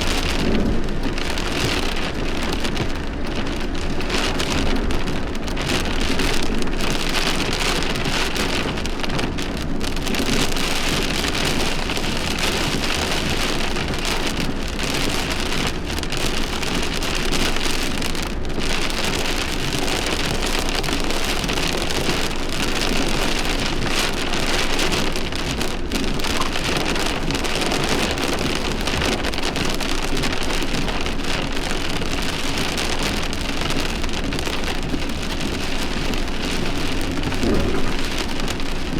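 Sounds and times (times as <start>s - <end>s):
heavy rain downpour: 0.0s - 38.9s.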